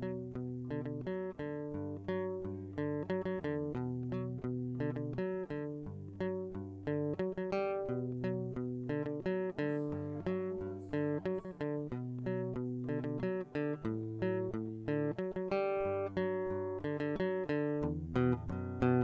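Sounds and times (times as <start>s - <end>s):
acoustic guitar melody: 0.0s - 19.0s.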